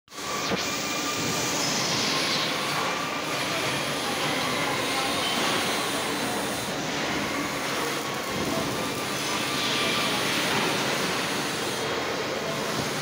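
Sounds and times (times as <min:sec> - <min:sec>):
factory machinery din: 0:00.1 - 0:13.0.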